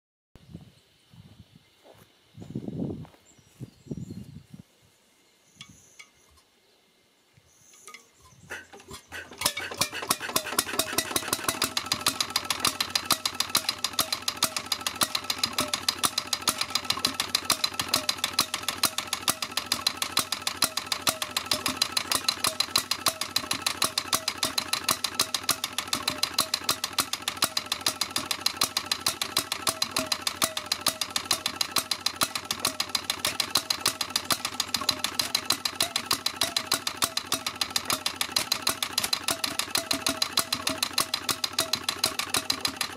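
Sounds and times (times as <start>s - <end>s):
flywheel turned by hand: 7.9s - 42.9s
stationary engine running: 8.5s - 42.9s.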